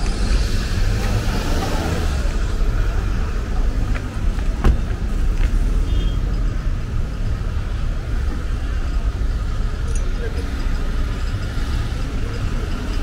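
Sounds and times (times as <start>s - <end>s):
car engines running: 0.0s - 13.0s
tyre noise on wet road: 0.0s - 13.0s.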